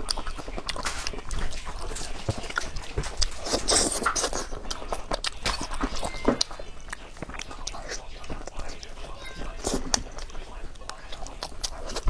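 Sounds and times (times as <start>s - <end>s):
wet chewing: 0.0s - 12.0s.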